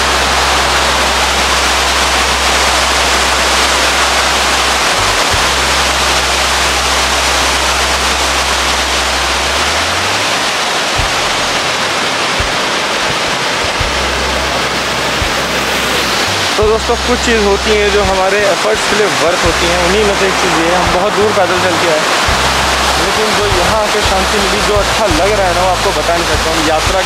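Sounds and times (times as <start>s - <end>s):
water rushing over weir: 0.0s - 27.0s.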